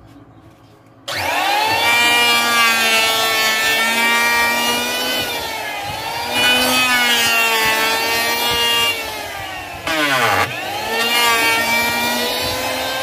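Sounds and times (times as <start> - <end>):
electric hand planer whining: 1.1 - 13.0.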